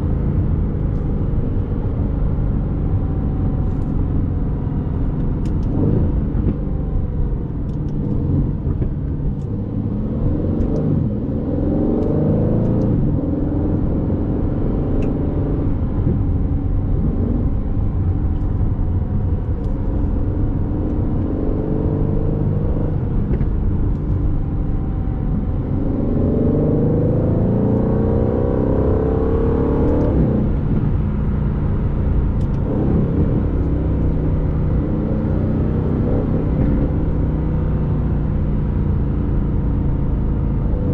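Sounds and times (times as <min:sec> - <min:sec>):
car engine accelerating under load: 0:00.8 - 0:40.9.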